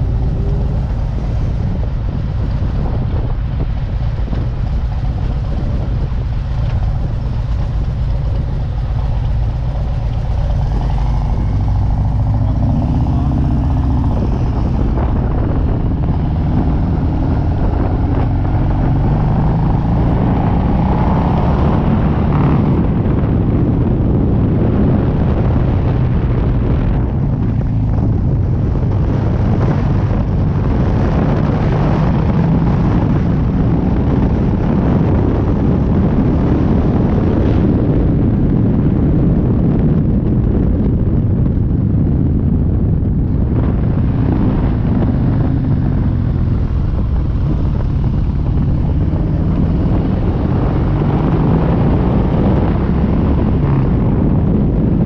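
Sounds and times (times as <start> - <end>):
motorcycle pulling away: 0.0 - 38.8, 43.4 - 54.7.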